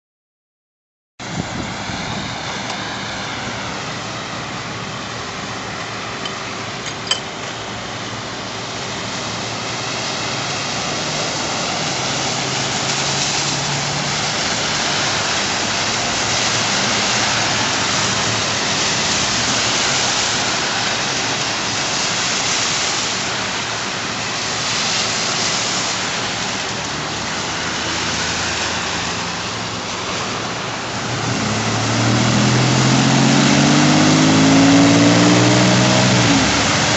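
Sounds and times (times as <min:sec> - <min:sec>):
tyres hissing through water: 0:01.3 - 0:36.9.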